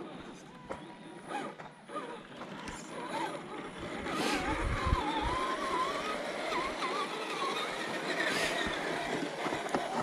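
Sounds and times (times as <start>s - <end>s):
toy truck electric motor whining: 1.0s - 10.0s.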